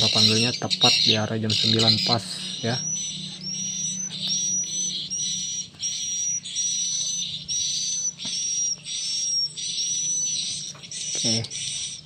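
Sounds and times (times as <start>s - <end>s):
faint steady hum: 0.0s - 12.0s
high bird chirps through speakers: 0.0s - 12.0s.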